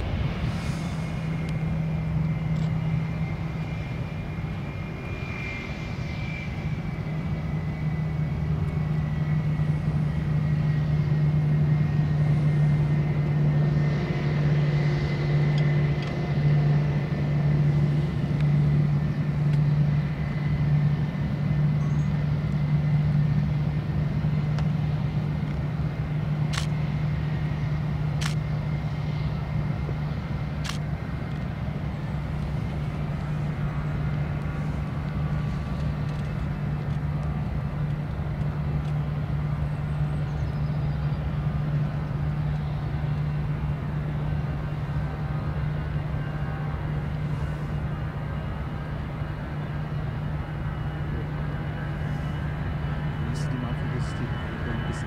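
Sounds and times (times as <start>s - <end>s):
jet engines idling: 0.0s - 55.0s.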